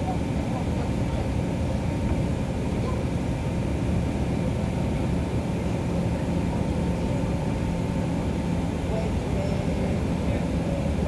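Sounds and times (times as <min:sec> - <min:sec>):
bus engine and tyre drone: 0:00.0 - 0:11.0.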